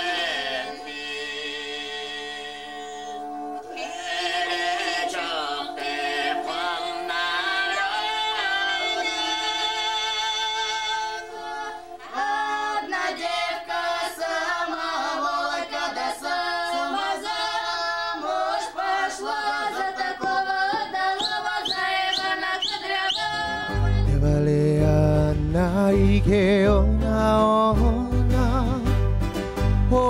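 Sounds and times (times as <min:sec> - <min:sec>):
group singing unaccompanied: 0:00.0 - 0:24.4.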